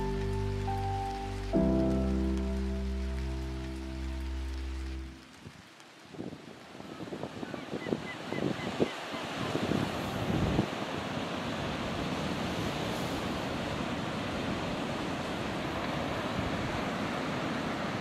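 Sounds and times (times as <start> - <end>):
ocean surf breaking on rocks: 0.0 - 18.0
wind gusts on microphone: 3.2 - 18.0.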